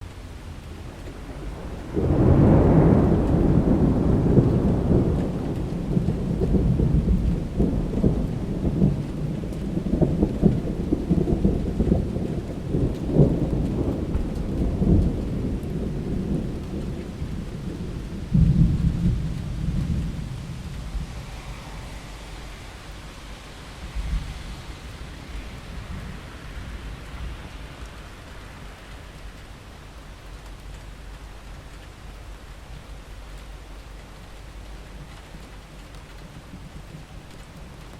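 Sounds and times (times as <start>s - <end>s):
steady rain: 0.0s - 37.9s
thunder rumbling: 0.5s - 37.9s.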